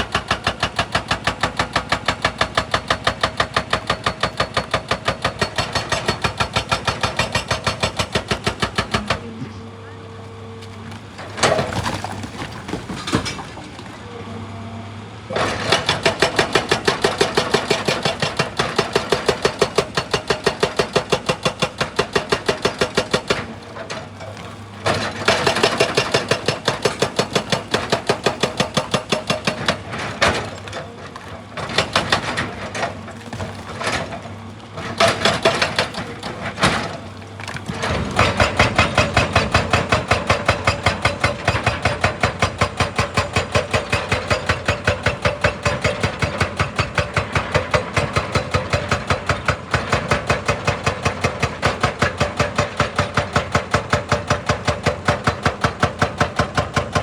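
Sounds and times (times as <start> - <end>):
hydraulic breaker hammering rock: 0.0 - 9.6, 10.7 - 14.0, 15.3 - 57.0
excavator engine running: 0.0 - 57.0.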